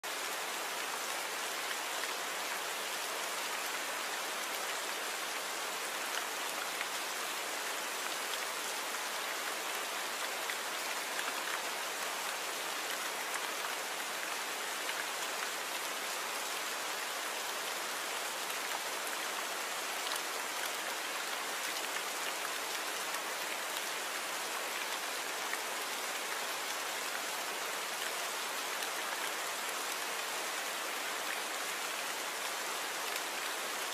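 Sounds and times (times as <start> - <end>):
torrential rain: 0.0 - 33.9.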